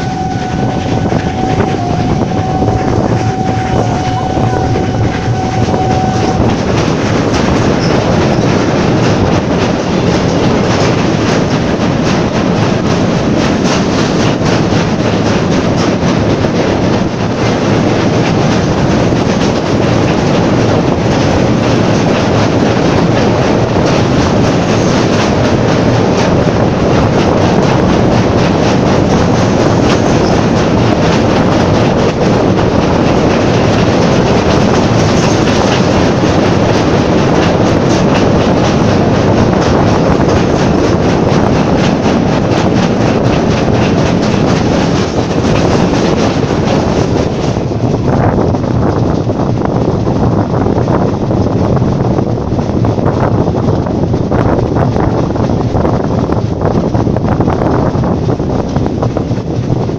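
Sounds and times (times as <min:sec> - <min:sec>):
train wheels clacking on rails: 0:00.0 - 0:59.9
wind on microphone: 0:00.0 - 0:59.9.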